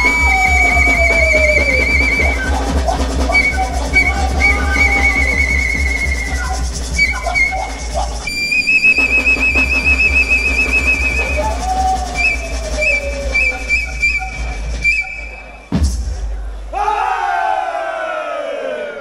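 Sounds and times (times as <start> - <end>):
short whistle chirps: 0.0 - 15.7
trilling whistle: 0.0 - 15.7.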